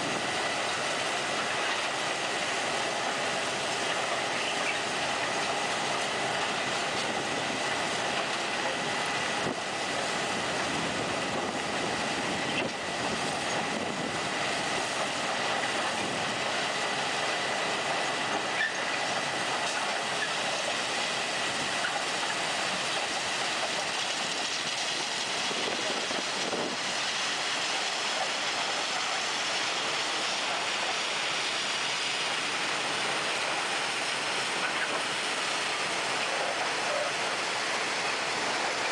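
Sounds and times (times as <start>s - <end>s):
rail wheels running: 0.0s - 38.9s.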